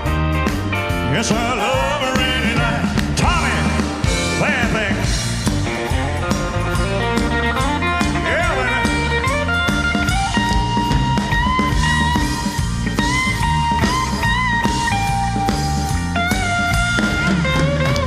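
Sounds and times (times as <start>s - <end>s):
bass guitar: 0.0s - 18.0s
drums: 0.0s - 18.0s
electric guitar bending notes: 0.0s - 18.0s.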